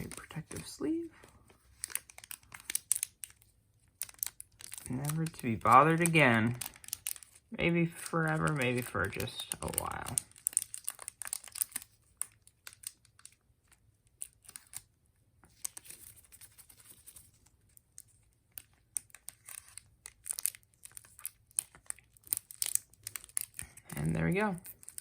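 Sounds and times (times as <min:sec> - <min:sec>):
plastic sleeve crinkling: 0:00.0 - 0:14.9, 0:15.5 - 0:25.0.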